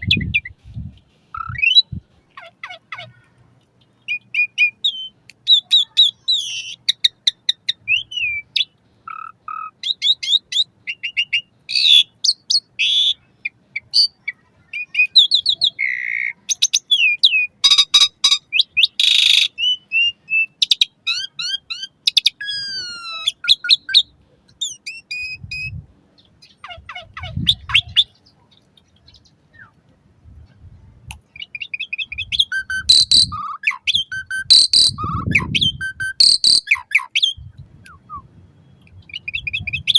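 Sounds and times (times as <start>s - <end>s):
starling singing: 3.8s - 13.2s, 13.8s - 29.8s, 31.3s - 39.9s.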